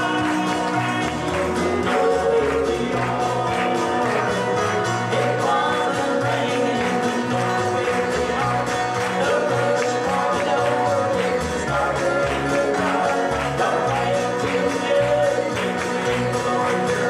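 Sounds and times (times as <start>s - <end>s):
live band music: 0.0s - 17.0s
person singing: 0.0s - 17.0s
steady bass line: 0.0s - 17.0s.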